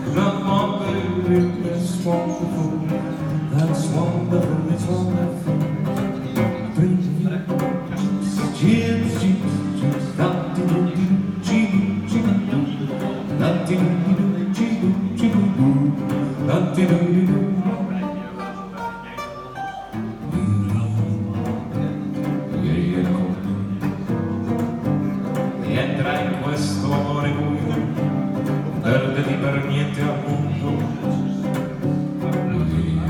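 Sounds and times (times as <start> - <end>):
electric guitar through amplifier: 0.0 - 33.0.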